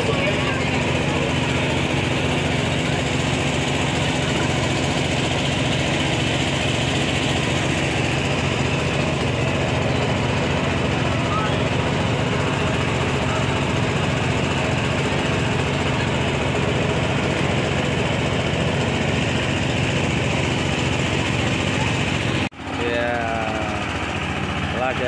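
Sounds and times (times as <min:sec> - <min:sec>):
boat engine droning: 0:00.0 - 0:25.0
voices: 0:00.0 - 0:25.0.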